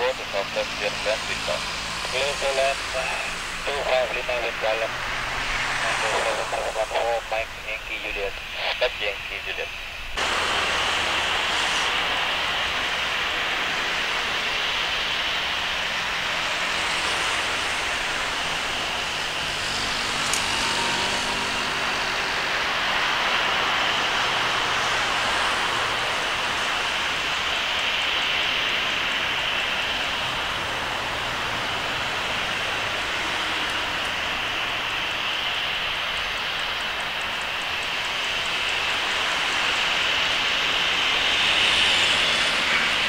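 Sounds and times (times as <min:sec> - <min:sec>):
distant jet engine roar: 0:00.0 - 0:43.0
high jet whine: 0:00.0 - 0:43.0.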